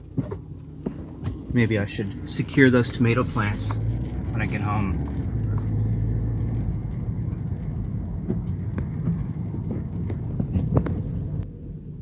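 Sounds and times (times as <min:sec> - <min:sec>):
car rumble from inside: 0:00.0 - 0:12.0.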